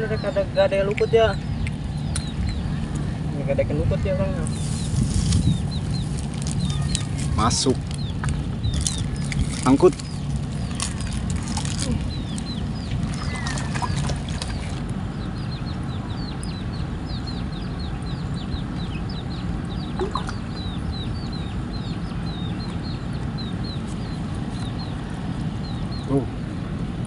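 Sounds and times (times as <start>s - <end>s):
birds peeping: 0.0s - 26.9s
low background rumble: 0.0s - 27.0s.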